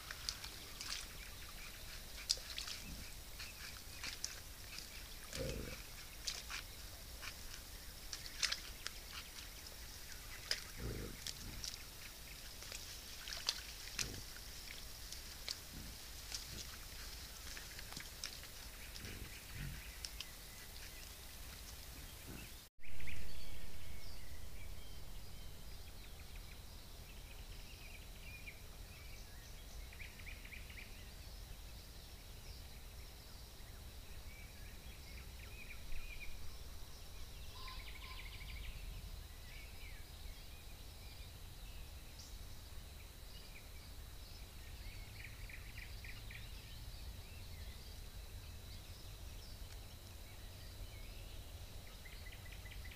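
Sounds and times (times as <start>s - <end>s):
steady hiss and low rumble: 0.0s - 52.9s.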